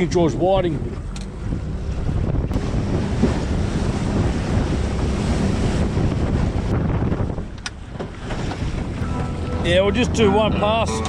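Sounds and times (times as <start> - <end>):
water slapping boat hull: 0.0 - 11.0
wind buffeting microphone: 0.0 - 11.0.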